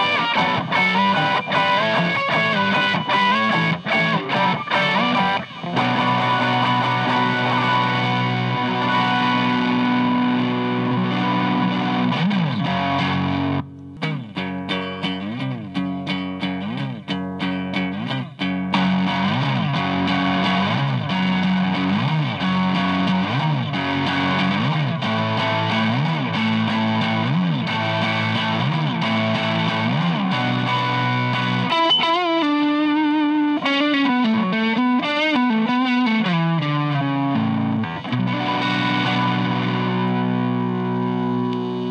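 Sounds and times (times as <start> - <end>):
overdriven electric guitar: 0.0 - 41.9.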